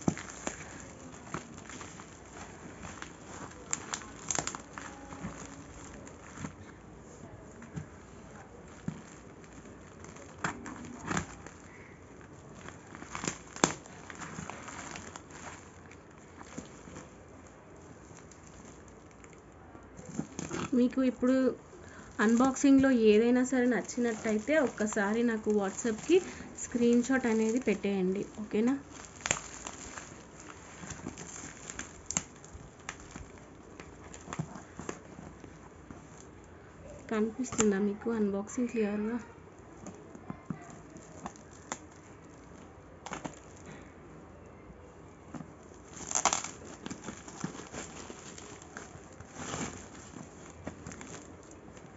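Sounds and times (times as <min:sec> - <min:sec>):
plastic-wrapped parcel crinkling: 0:00.0 - 0:51.9.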